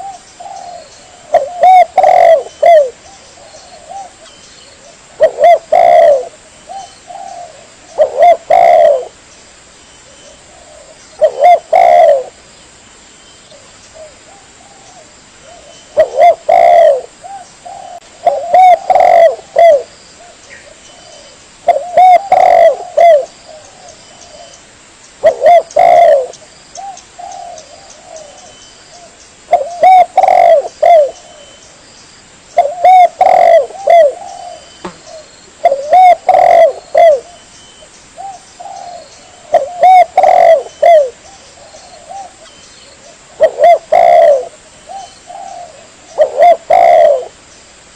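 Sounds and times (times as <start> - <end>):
dove cooing: 0.0 - 9.2, 10.2 - 12.4, 13.5 - 24.6, 25.2 - 31.6, 32.6 - 37.5, 38.2 - 47.4
faint dove cooing: 0.0 - 9.2, 10.1 - 12.4, 13.5 - 24.6, 25.2 - 31.6, 32.6 - 37.5, 38.2 - 47.4.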